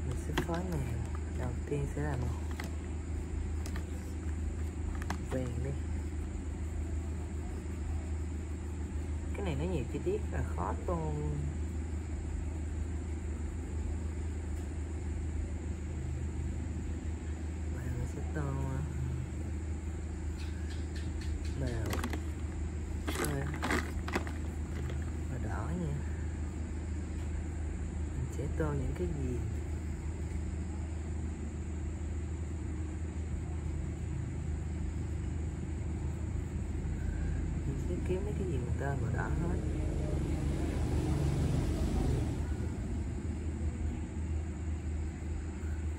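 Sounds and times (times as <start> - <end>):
faint high whine: 0.0 - 45.9
low rumble with hum: 0.0 - 45.9.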